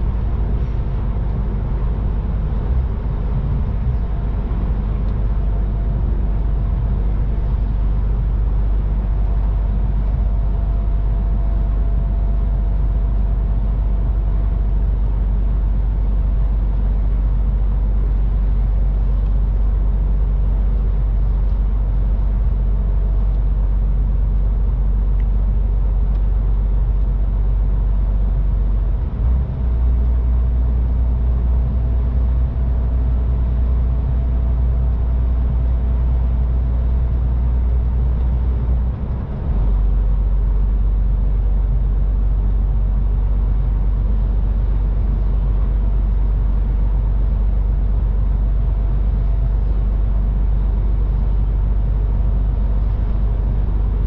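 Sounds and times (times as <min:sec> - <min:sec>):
faint steady whine: 0:00.0 - 0:54.0
truck engine and road drone: 0:00.0 - 0:54.0.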